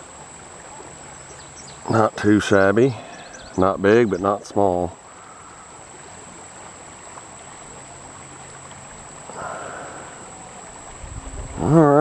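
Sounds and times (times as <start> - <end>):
river water flowing and lapping: 0.0 - 12.0.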